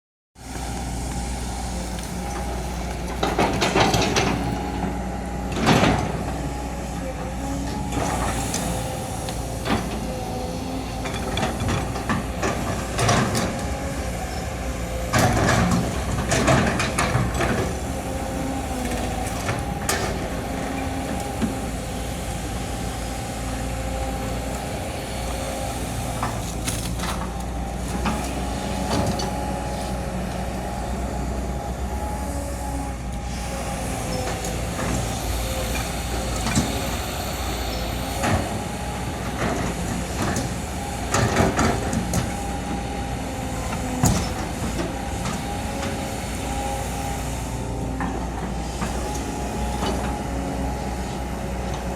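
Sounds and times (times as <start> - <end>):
excavator engine drone: 0.4 - 51.9
hydraulic whine: 0.4 - 51.9.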